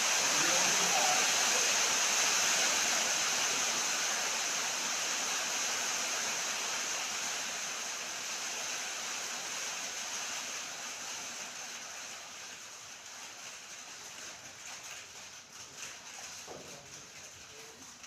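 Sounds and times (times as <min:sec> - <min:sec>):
running water hissing: 0:00.0 - 0:18.0.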